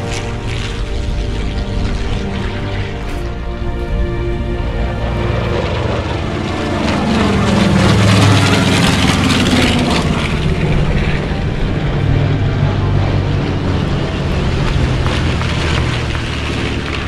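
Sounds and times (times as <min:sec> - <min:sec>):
propeller warplane engines droning: 0:00.0 - 0:17.0.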